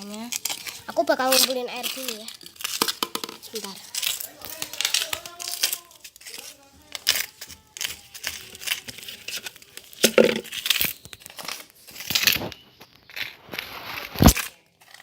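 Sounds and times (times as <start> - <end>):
crinkling and rustling: 0.0 - 15.0.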